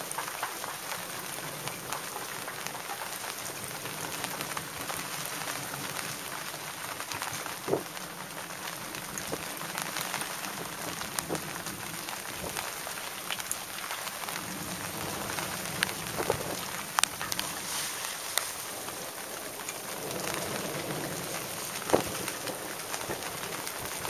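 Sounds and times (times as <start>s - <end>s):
sharp ticks of raindrops: 0.0s - 24.0s
steady rain falling: 0.0s - 24.0s.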